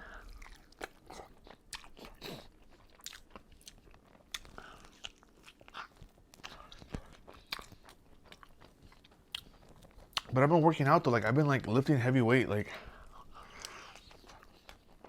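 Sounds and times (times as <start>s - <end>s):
chewing and biting food: 0.0s - 10.3s, 13.1s - 15.0s.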